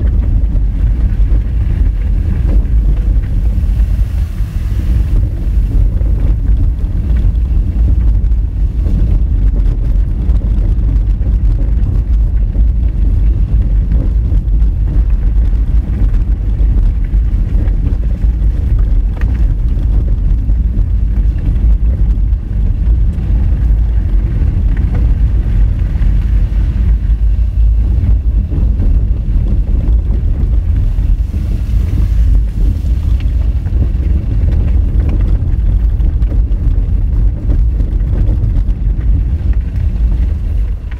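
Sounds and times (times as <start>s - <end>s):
car driving on gravel: 0.0s - 40.9s.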